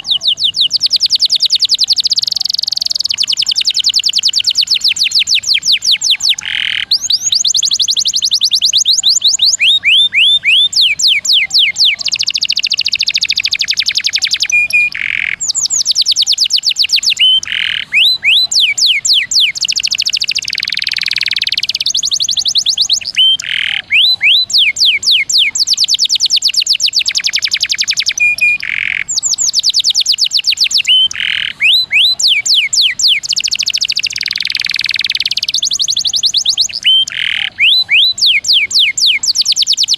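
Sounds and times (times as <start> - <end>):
canary singing in trills: 0.0 - 39.9.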